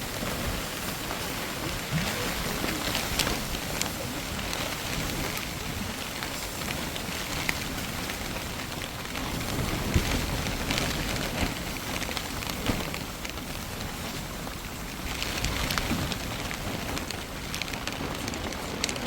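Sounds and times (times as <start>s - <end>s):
rain falling: 0.0s - 19.0s
raindrop impacts: 0.0s - 19.0s.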